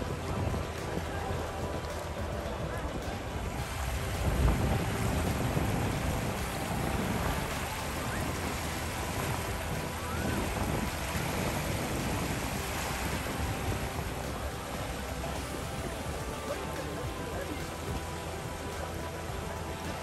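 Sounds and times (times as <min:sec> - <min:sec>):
small waves washing ashore: 0:00.0 - 0:20.0
wind buffeting microphone: 0:00.0 - 0:20.0.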